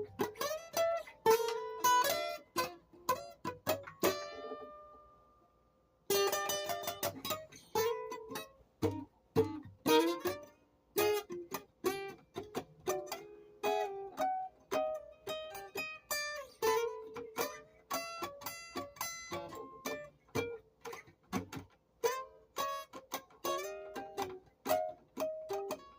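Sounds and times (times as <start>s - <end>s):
plucked string melody: 0.0s - 5.4s, 6.1s - 25.9s.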